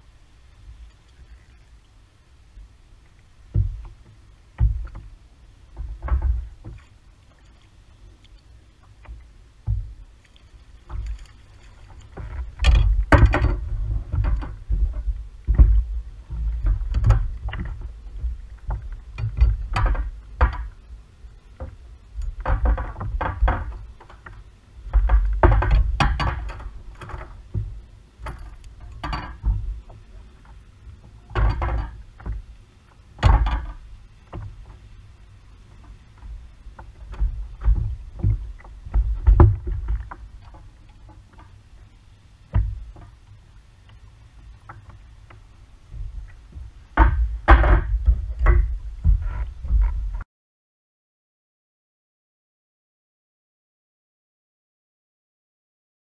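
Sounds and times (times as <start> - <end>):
water sloshing: 2.6 - 50.0.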